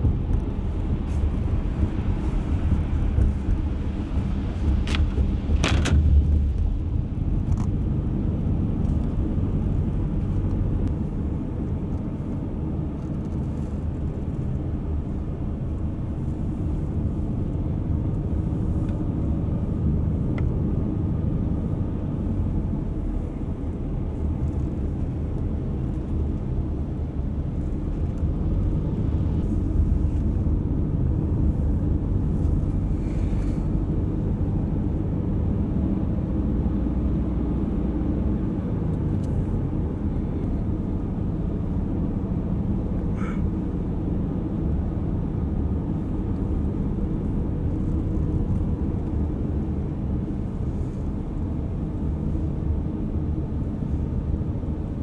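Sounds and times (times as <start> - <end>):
vehicle road and engine rumble: 0.0 - 55.0.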